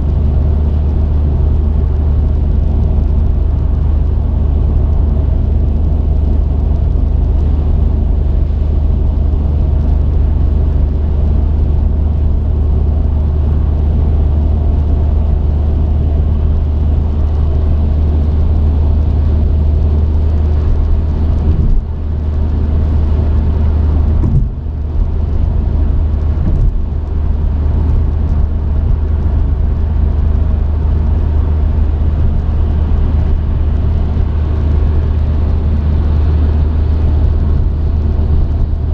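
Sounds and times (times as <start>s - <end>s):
truck engine drone from cab: 0.0s - 38.9s.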